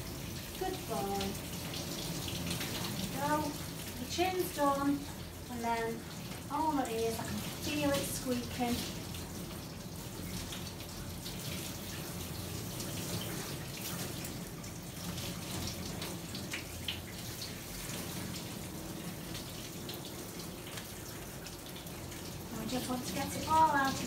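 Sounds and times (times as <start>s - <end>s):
shower sprayer running: 0.0s - 24.0s.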